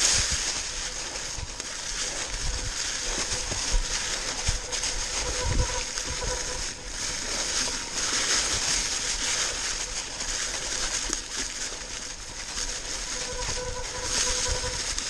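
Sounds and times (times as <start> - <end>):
bike tyres rustling through dry leaves: 0.0 - 15.0.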